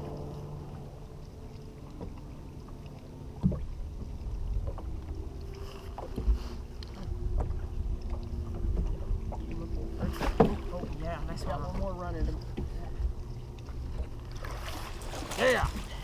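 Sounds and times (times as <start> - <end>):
water lapping against hull: 0.0 - 16.0.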